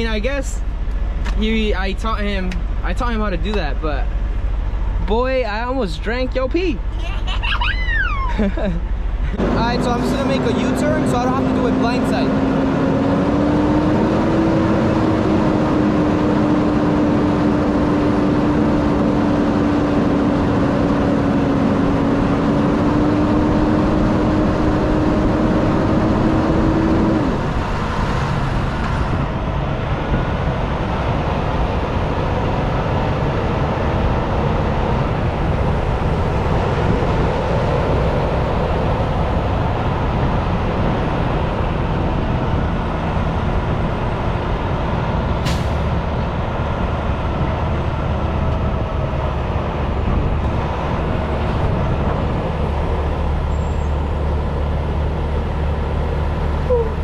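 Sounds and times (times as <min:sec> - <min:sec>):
diesel truck engine running: 0:00.0 - 0:57.0
road noise: 0:00.0 - 0:57.0.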